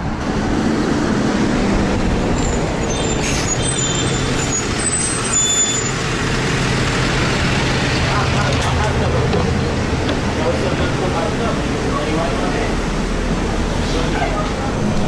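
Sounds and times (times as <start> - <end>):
bus engine idling hum: 0.0 - 15.0
brakes squealing: 1.1 - 15.0.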